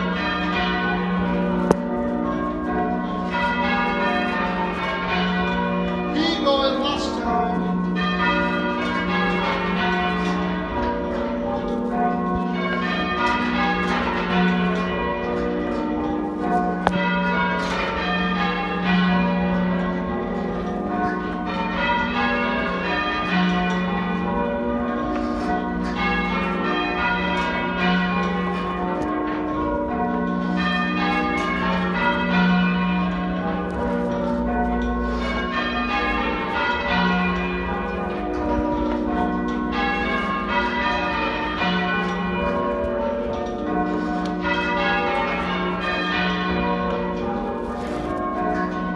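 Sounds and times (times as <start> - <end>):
half-muffled church bells ringing: 0.0 - 48.9.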